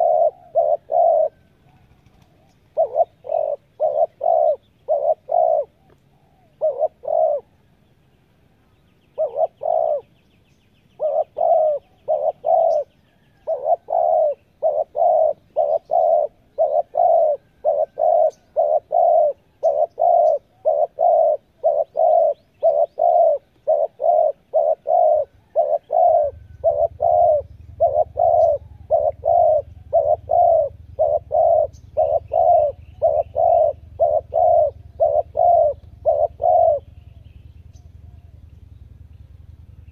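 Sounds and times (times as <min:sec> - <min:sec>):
dove cooing: 0:00.0 - 0:07.7, 0:09.1 - 0:10.1, 0:10.9 - 0:38.6
low steady hum: 0:00.0 - 0:39.9
small birds chirping: 0:00.0 - 0:39.9.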